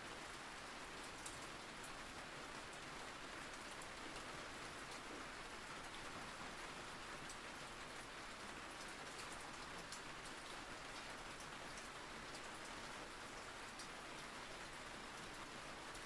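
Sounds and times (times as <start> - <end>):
steady rain falling: 0.0 - 16.0
ticks of raindrops: 0.2 - 16.0.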